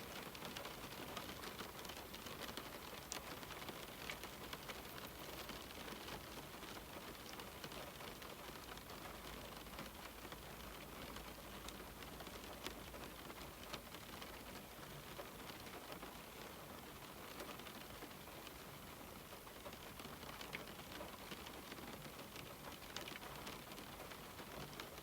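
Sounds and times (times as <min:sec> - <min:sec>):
rain on window glass: 0:00.0 - 0:25.0
raindrops ticking: 0:00.1 - 0:25.0.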